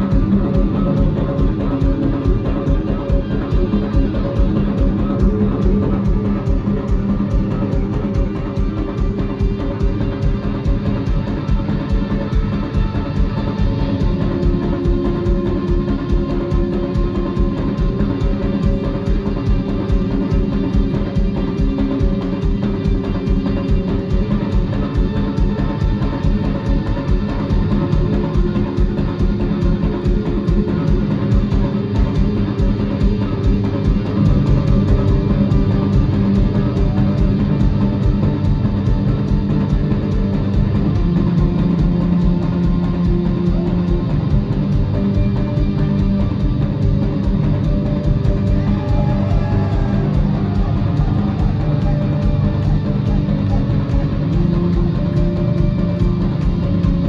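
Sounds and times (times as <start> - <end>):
drum kit beat: 0.0 - 57.0
electric guitar: 0.0 - 57.0
live rock band playing: 0.0 - 57.0.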